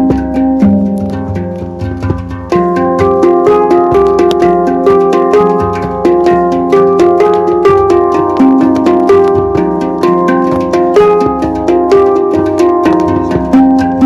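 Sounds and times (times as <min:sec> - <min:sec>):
instrumental music with beat: 0:00.0 - 0:14.0.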